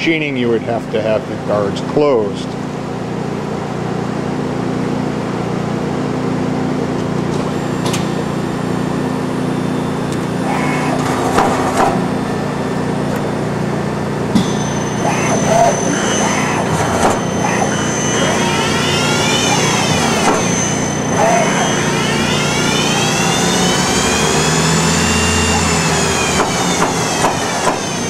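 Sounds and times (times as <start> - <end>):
lathe mechanical hum: 0.0 - 28.0.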